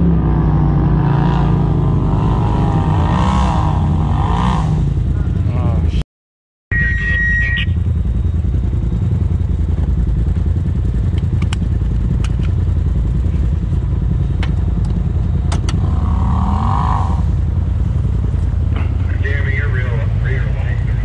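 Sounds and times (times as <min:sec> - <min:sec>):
engine idling drone: 0:00.0 - 0:06.0, 0:06.7 - 0:21.0.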